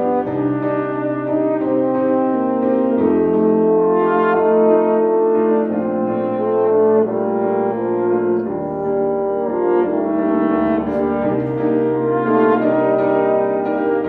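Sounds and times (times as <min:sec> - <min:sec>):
french horns playing melody: 0:00.0 - 0:14.0
piano accompaniment: 0:00.0 - 0:14.0.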